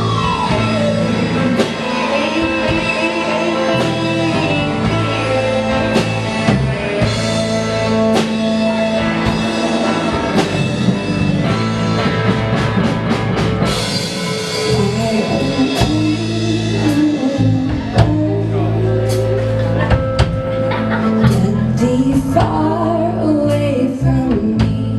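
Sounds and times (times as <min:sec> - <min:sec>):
rock band playing: 0:00.0 - 0:24.9.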